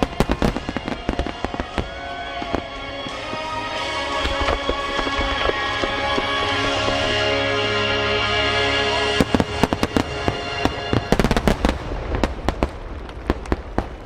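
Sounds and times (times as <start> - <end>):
fireworks crackling and popping: 0.0 - 7.4, 9.1 - 14.0
held musical chord: 0.0 - 11.7.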